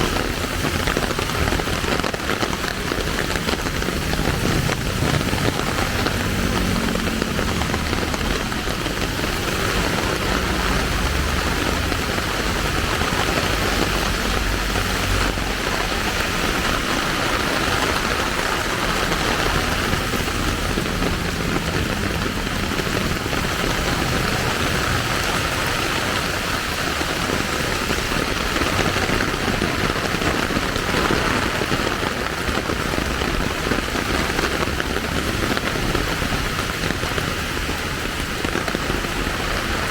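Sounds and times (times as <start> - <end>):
rain splashing on surfaces: 0.0 - 39.9
vehicle engine rumble: 0.0 - 39.9.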